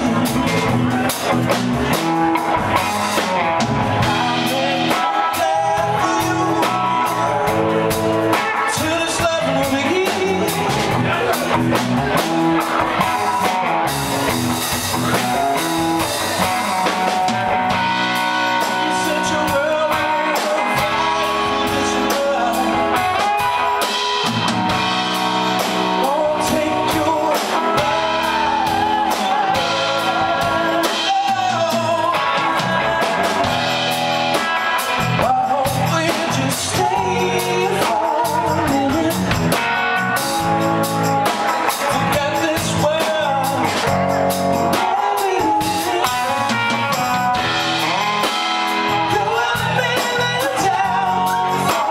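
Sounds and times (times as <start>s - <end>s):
person singing: 0.0s - 40.6s, 41.2s - 51.9s
drum kit: 0.0s - 51.9s
electric guitar: 0.0s - 51.9s.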